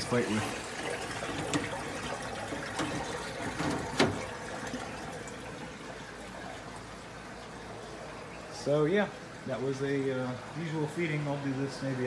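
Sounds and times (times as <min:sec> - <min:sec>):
aquarium water trickling: 0:00.0 - 0:12.0.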